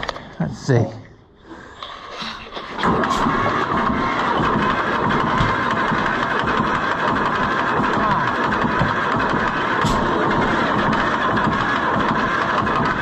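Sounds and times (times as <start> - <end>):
tractor engine starting and running: 1.6 - 13.0.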